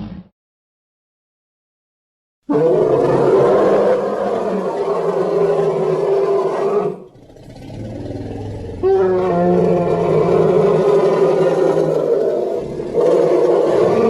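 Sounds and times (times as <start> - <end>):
monster roar: 2.5 - 14.0
low rumbling growl: 2.6 - 14.0.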